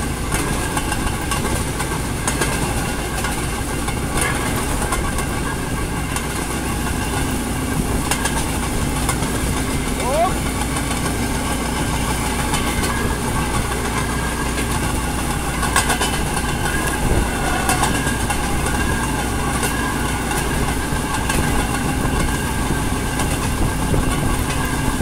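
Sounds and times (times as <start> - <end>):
railway engine and wheel noise: 0.0 - 25.0
wheels clicking over rails: 0.0 - 25.0.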